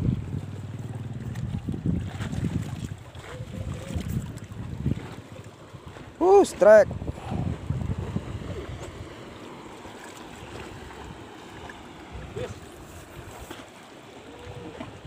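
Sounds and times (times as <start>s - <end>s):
wind buffeting microphone: 0.0s - 9.8s, 10.4s - 13.6s
sea ambience: 0.0s - 15.0s.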